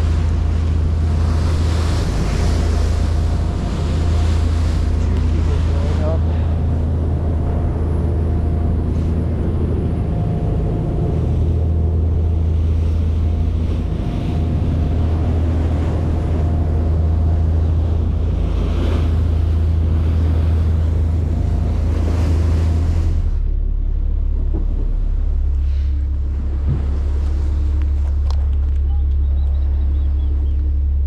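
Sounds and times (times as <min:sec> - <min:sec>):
boat engines droning: 0:00.0 - 0:31.0
water noise: 0:00.0 - 0:31.0
wind: 0:00.0 - 0:31.0.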